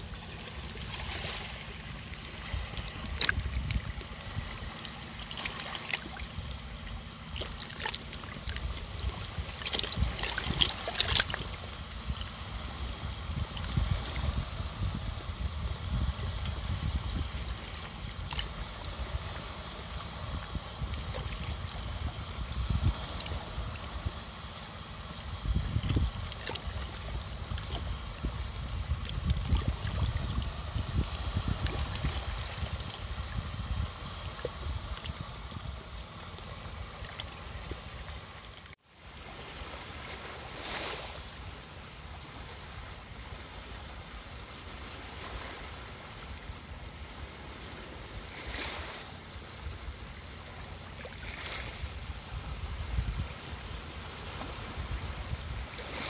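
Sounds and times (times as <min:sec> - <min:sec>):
sea water lapping: 0:00.0 - 0:56.0
small waves washing onto shore: 0:00.0 - 0:56.0
wind rumble on microphone: 0:00.0 - 0:56.0.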